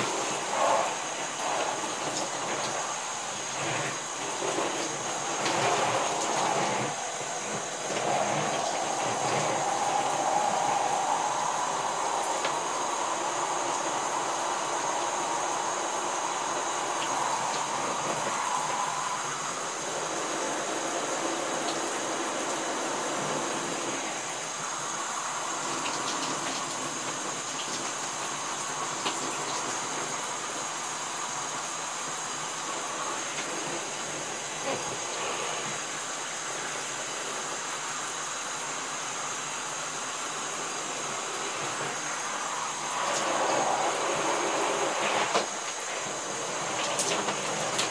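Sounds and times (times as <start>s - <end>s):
shower water spraying: 0.0s - 47.9s.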